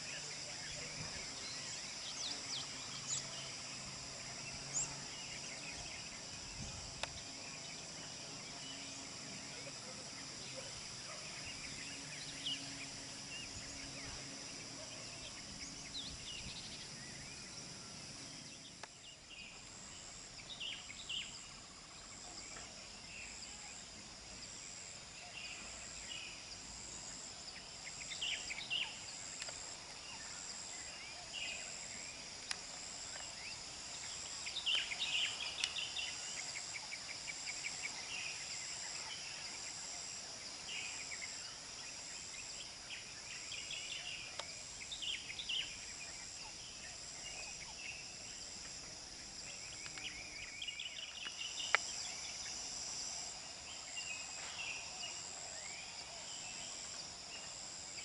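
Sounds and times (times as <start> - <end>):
insects trilling: 0.0 - 58.0
pulsing higher insect call: 0.0 - 58.0
short insect chirps: 0.0 - 58.0.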